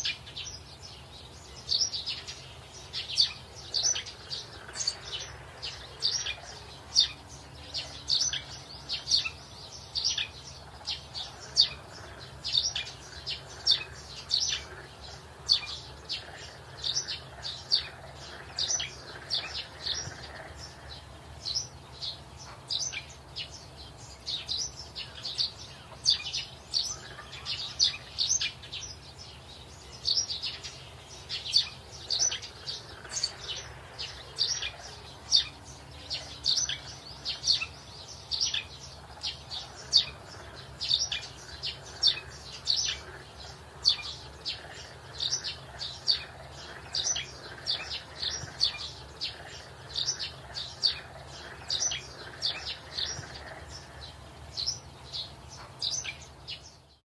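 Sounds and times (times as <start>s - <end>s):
bird chicks peeping: 0.0s - 57.0s.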